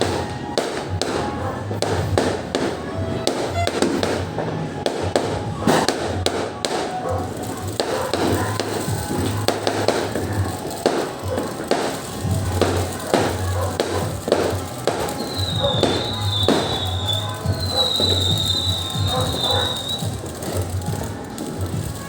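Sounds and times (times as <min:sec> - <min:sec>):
background music: 0:00.0 - 0:22.0
fireworks popping and cracking: 0:00.0 - 0:22.0.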